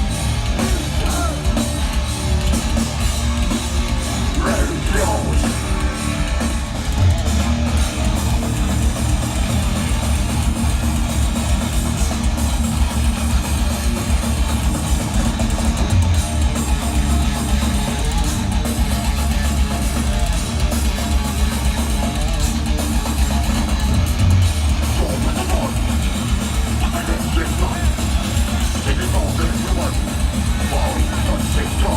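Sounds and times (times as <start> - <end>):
distorted electric guitars: 0.0 - 31.9
drums: 0.0 - 31.9.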